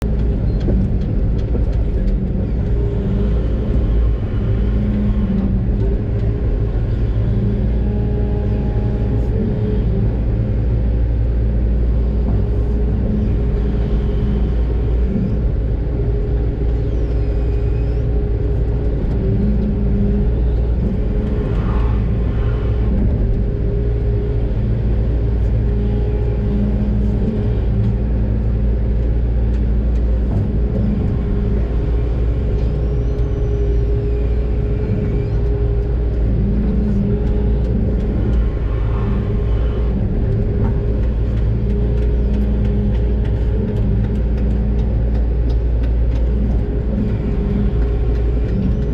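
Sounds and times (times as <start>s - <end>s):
excavator diesel engine rumbling: 0.0s - 48.9s.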